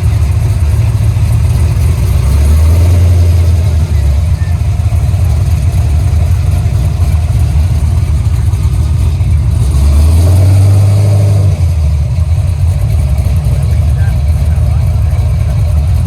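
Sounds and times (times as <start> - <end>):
car engine revving: 0.0 - 16.0
heavy low rumble: 0.0 - 16.0.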